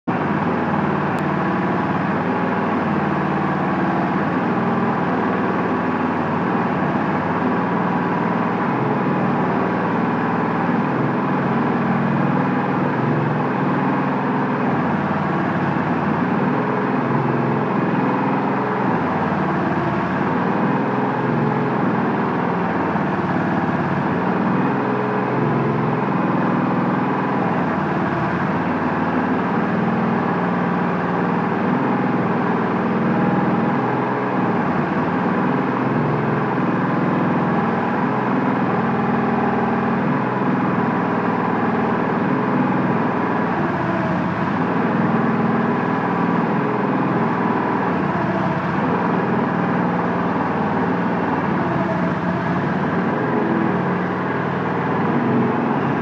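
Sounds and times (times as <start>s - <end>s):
diesel engine running loudly: 0.0s - 56.0s.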